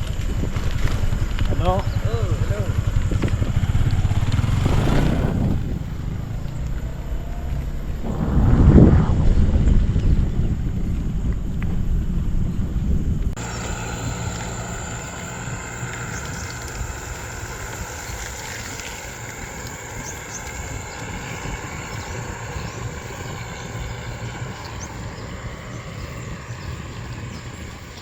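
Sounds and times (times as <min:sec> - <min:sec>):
road noise: 0:00.0 - 0:28.0
wind rumbling on microphone: 0:00.0 - 0:28.0.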